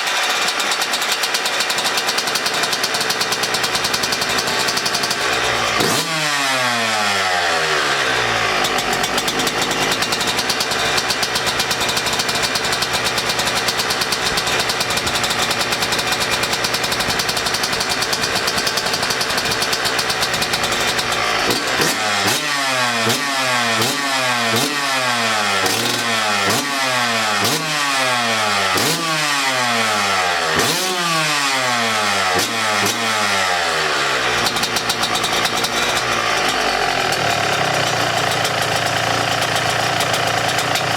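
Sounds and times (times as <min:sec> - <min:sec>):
two-stroke engine revving: 0:00.0 - 0:40.9.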